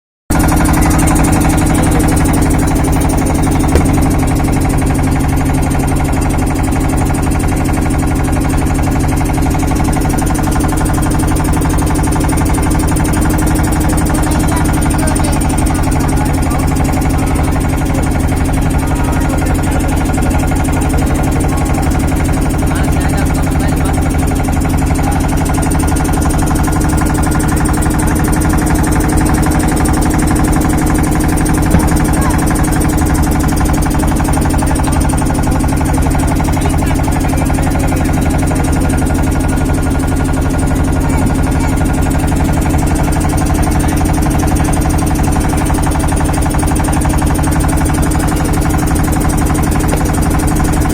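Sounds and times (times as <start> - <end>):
loud engine-like hum: 0.3 - 50.9.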